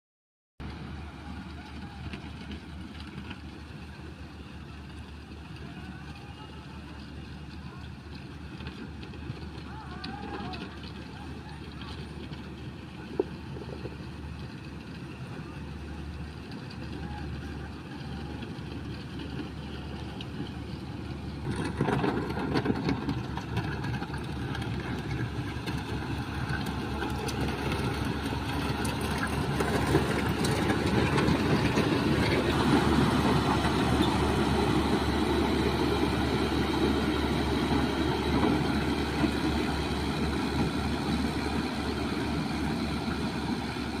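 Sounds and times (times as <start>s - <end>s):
diesel engine running: 0.6s - 44.0s.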